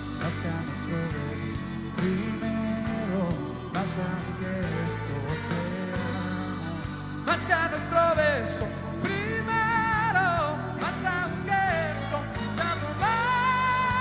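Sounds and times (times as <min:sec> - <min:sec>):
drum kit with cymbals: 0:00.0 - 0:14.0
live band music: 0:00.0 - 0:14.0
man singing: 0:00.0 - 0:14.0.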